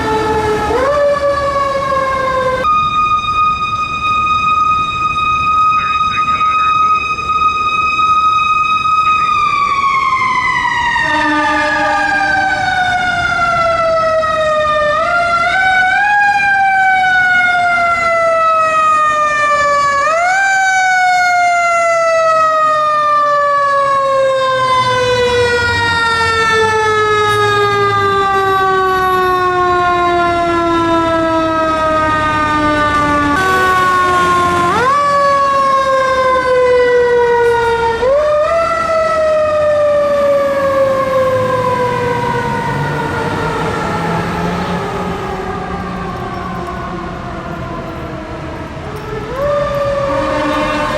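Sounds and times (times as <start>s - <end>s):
fire engine siren winding: 0.0s - 50.9s.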